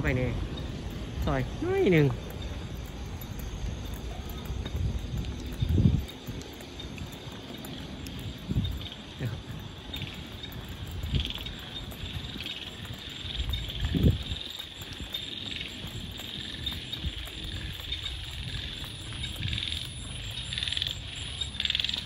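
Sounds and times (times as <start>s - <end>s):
frogs and insects trilling: 0.0s - 22.0s.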